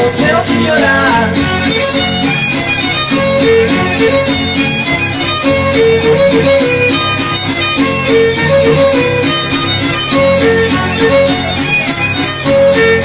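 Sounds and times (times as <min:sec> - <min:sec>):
strummed guitars: 0:00.0 - 0:13.0
violin melody: 0:00.0 - 0:13.0.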